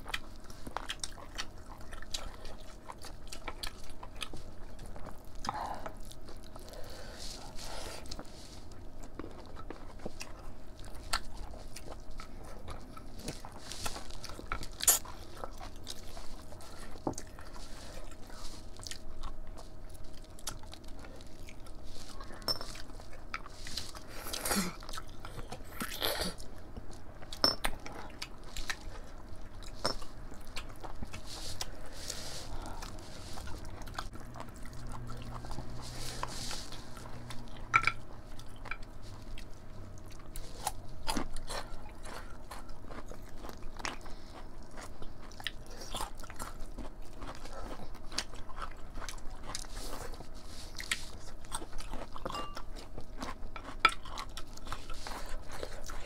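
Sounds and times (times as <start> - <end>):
food crunching: 0.0 - 56.0
people chewing food: 0.0 - 56.0.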